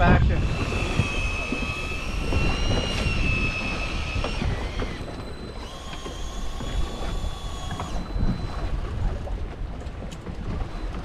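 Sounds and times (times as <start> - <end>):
fishing reel motor whining: 0.0 - 9.5, 10.4 - 11.0
wind rumble on microphone: 0.0 - 11.0.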